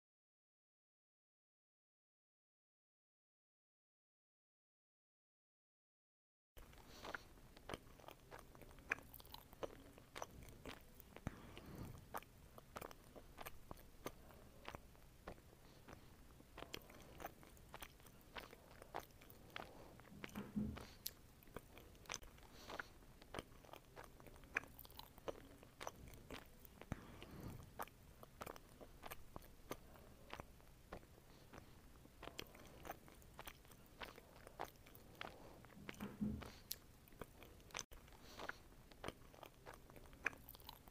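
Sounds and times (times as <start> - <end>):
person chewing fruit: 6.6 - 40.9.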